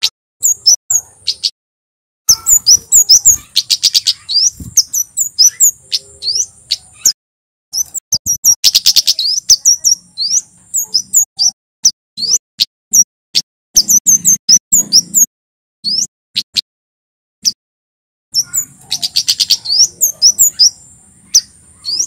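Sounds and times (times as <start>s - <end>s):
bird singing high chipping notes: 0.0s - 1.6s, 2.3s - 13.1s, 13.8s - 16.6s, 18.4s - 22.0s.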